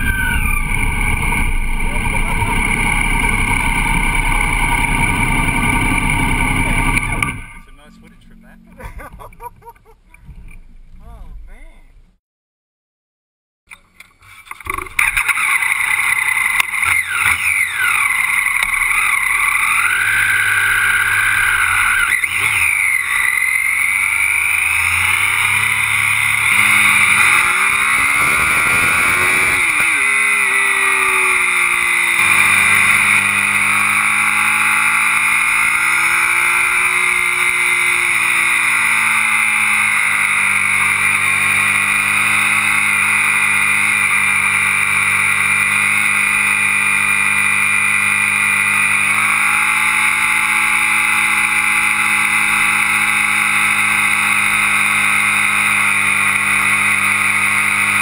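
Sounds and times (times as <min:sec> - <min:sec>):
motorcycle engine accelerating: 0:00.0 - 0:09.7, 0:14.4 - 0:58.0
wind and road noise: 0:00.0 - 0:12.2, 0:13.8 - 0:58.0.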